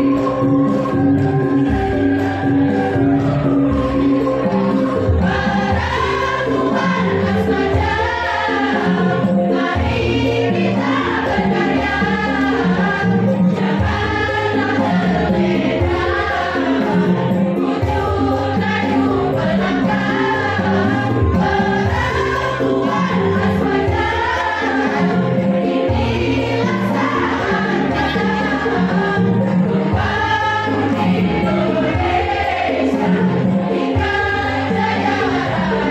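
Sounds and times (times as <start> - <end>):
instrumental accompaniment: 0.0 - 35.9
women's choir singing: 0.0 - 35.9.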